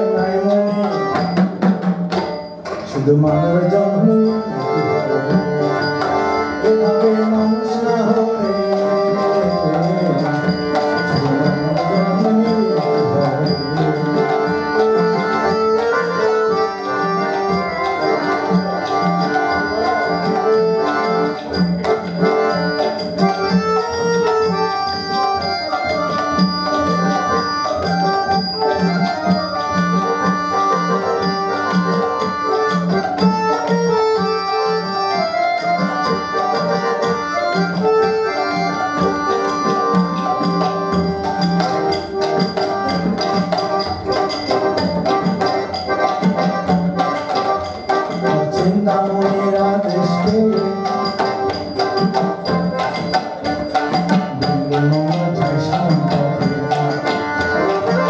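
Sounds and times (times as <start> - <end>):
barrel drum beat: 0.0 - 58.0
harmonium melody: 0.0 - 58.0
tabla beat: 0.0 - 58.0.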